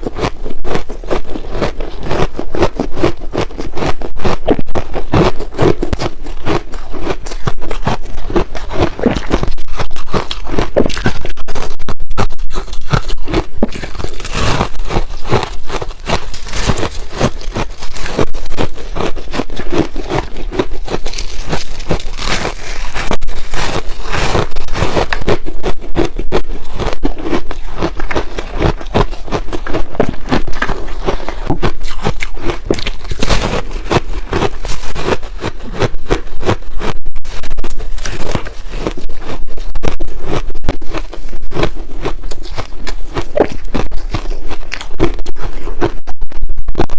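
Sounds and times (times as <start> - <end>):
ice being chewed: 0.0 - 46.9.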